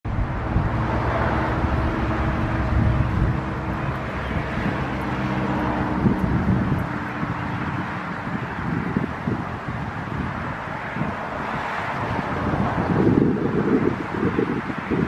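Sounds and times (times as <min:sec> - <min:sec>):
engine humming: 0:00.0 - 0:13.8
low outdoor rumble: 0:00.1 - 0:13.3.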